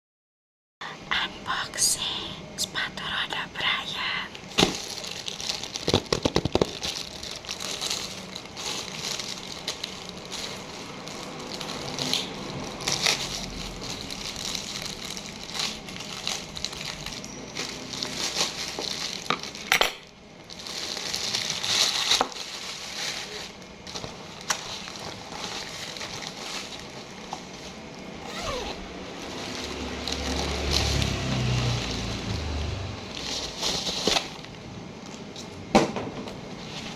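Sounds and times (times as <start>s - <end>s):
packaging crinkling and rustling: 4.4s - 36.9s.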